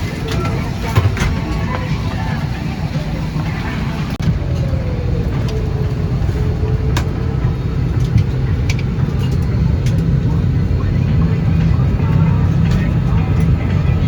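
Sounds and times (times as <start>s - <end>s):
vehicle rumbling in motion: 0.0s - 14.0s.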